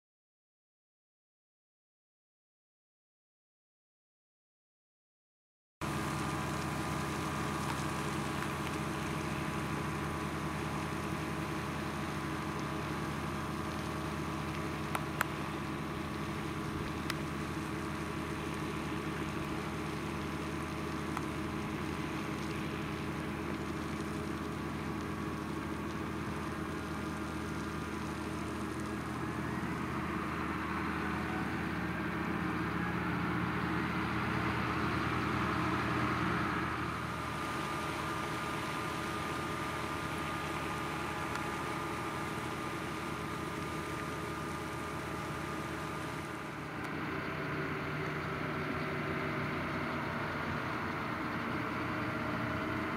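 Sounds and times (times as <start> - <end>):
tractor diesel engine running: 5.8 - 52.9.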